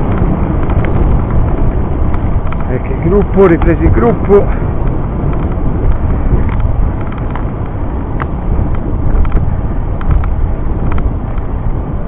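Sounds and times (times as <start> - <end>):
light clicks and rattles: 0.0 - 11.5
wind and road noise: 0.0 - 12.0.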